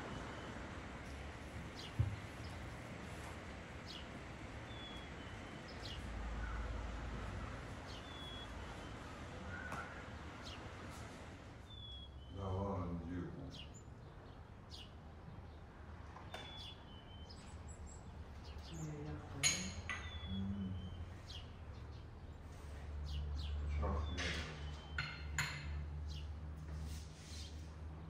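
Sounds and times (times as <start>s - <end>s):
small birds chirping: 0.0s - 27.7s.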